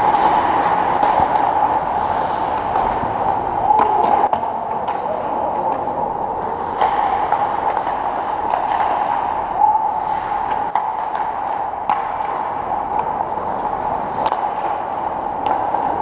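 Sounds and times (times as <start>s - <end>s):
hockey sticks and puck clacking: 0.0s - 16.0s
skates scraping on ice: 0.0s - 16.0s.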